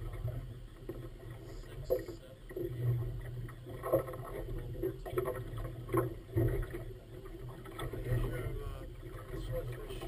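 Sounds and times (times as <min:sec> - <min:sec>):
outboard motor running: 0:00.0 - 0:10.0
water slapping against hull: 0:00.0 - 0:10.0.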